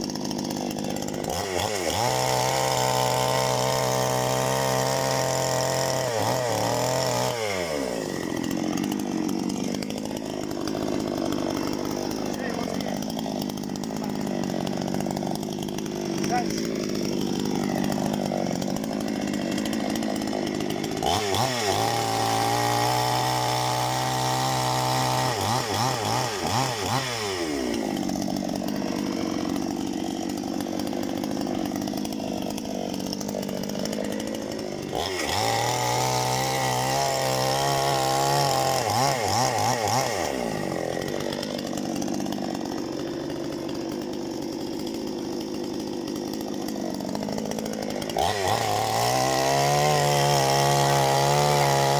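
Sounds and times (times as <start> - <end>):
chainsaw revving cutting wood: 0.0 - 51.9.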